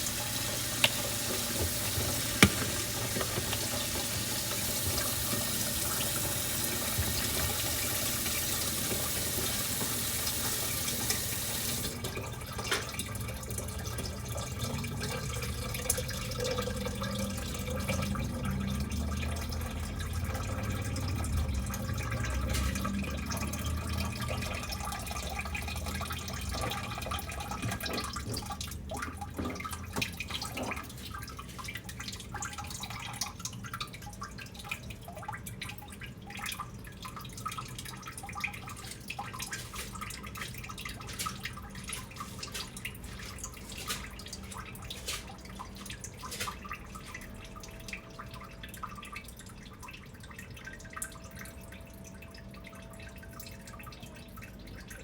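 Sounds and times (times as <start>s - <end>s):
water dripping: 0.0s - 55.0s
water splashing in a bath: 0.0s - 55.0s.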